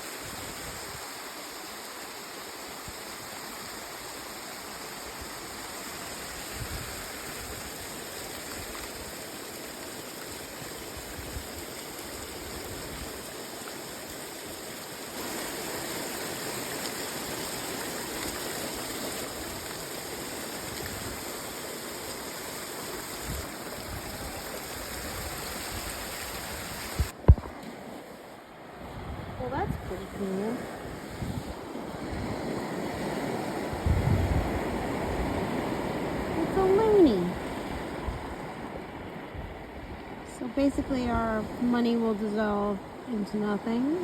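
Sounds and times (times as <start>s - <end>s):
ocean surf rushing: 0.0s - 44.0s.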